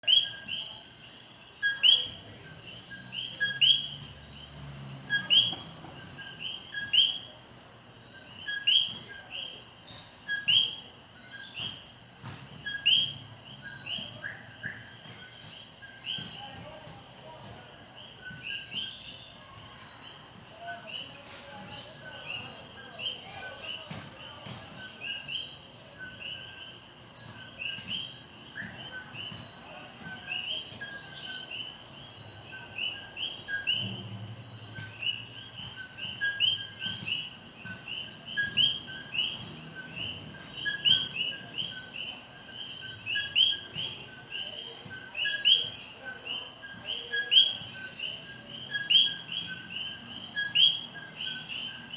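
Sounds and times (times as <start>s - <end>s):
frogs calling: 0.0s - 51.9s.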